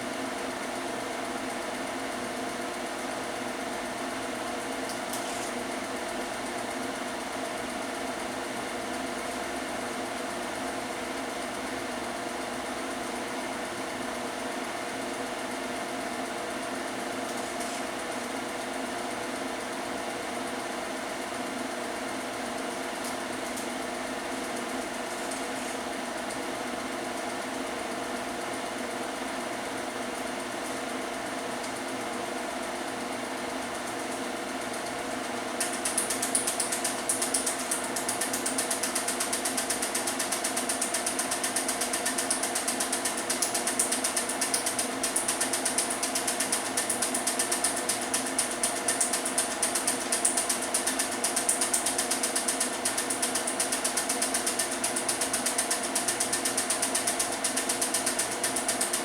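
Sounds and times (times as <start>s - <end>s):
film projector clattering and humming: 0.0s - 59.0s.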